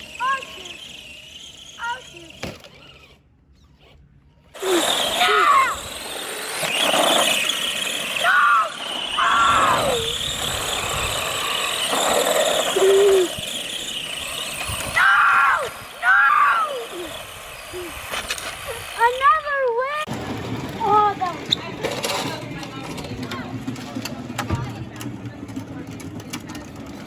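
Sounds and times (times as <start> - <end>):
rc car motors whining: 0.0 - 26.9.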